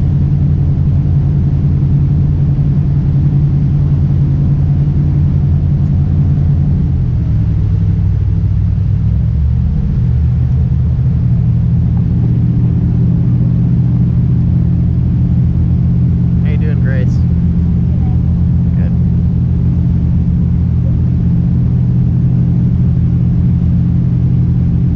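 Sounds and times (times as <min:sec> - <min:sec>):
jet boat engine droning: 0:00.0 - 0:24.9.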